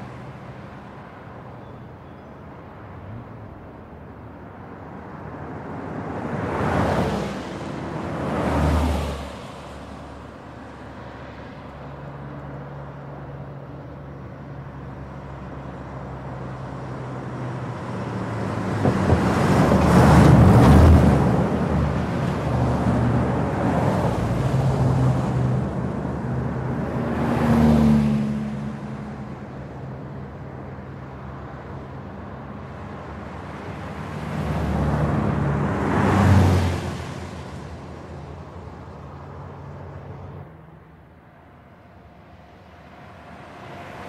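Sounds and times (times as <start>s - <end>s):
vehicles passing at speed: 0.0s - 44.0s.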